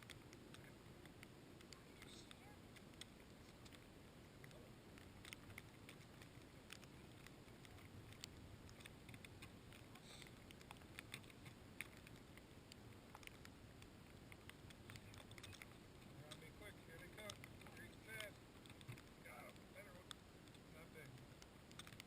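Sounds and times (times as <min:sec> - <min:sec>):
faint light ticks and taps: 0:00.0 - 0:22.0
low steady rumble: 0:00.0 - 0:22.0.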